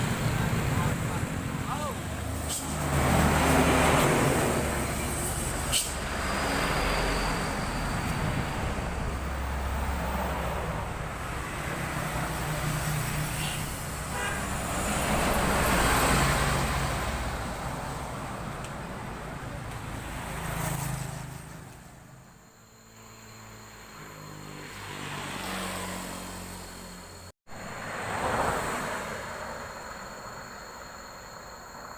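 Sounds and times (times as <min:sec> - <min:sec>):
vehicles passing: 0:00.0 - 0:31.9.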